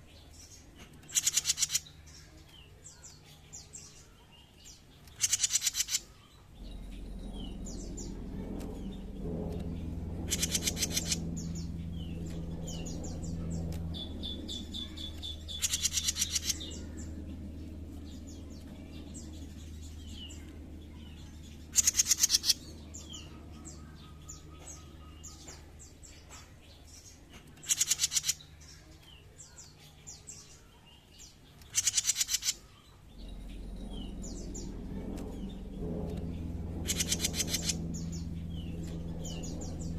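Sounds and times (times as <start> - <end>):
songbird buzzy rattling trills: 0.0 - 39.9
steady low hum: 0.0 - 39.9.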